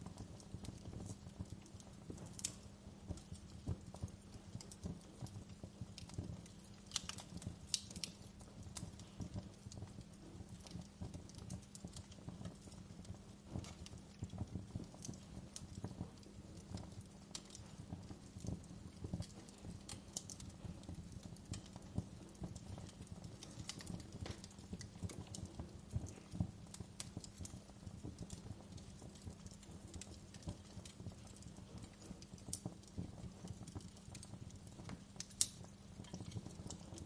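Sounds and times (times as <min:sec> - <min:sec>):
low rumble of flames: 0:00.0 - 0:37.0
wood fire crackling and popping: 0:00.0 - 0:37.0.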